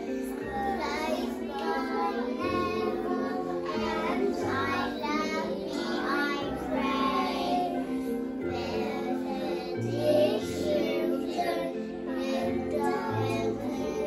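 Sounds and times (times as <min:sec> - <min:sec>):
children singing together: 0:00.0 - 0:14.0
musical backing with bass: 0:00.0 - 0:14.0.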